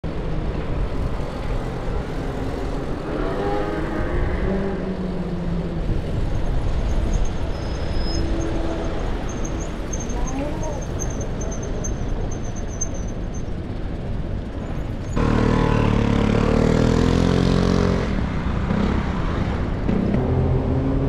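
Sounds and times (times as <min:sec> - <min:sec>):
motor vehicle engine hum: 0:00.0 - 0:21.0
road and wind noise rumble: 0:00.0 - 0:21.0.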